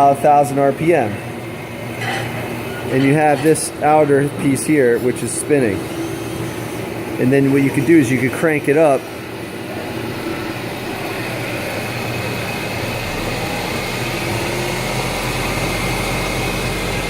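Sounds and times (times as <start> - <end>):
wood lathe running: 2.6 - 17.0.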